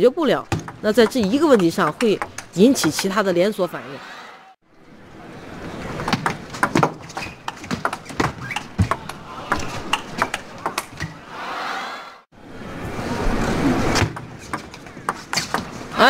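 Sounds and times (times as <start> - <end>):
crowd noise: 1.4 - 16.0.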